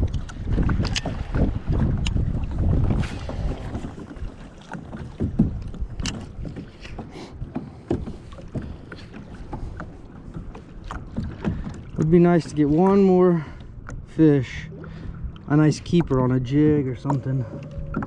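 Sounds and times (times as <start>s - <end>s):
water lapping and splashing: 0.0s - 18.0s
wind buffeting microphone: 0.0s - 18.0s.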